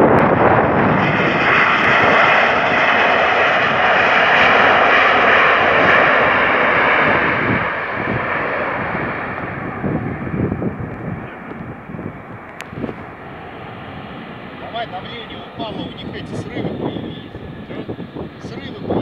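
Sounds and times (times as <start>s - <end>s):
jet engines in reverse thrust: 0.0s - 19.0s.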